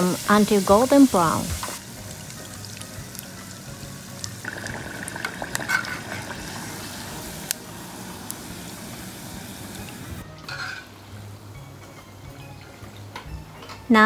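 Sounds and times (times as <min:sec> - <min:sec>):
food deep-frying in oil: 0:00.0 - 0:13.3.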